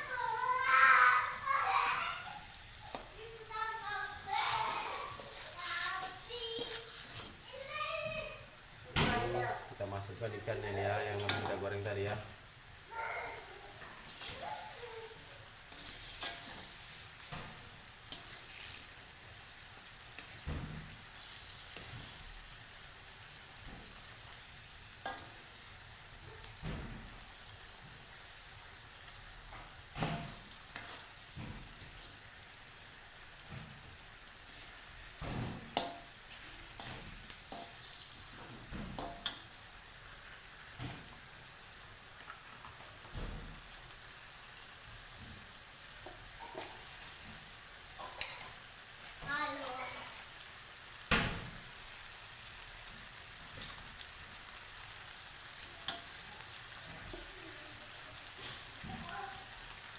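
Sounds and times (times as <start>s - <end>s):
fish sizzling in a pan: 0.0s - 59.9s.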